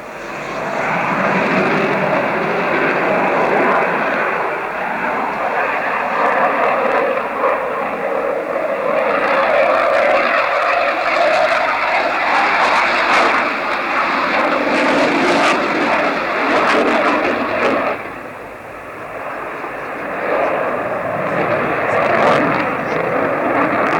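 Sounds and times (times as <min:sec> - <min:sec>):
aircraft engines roaring: 0:00.0 - 0:23.9.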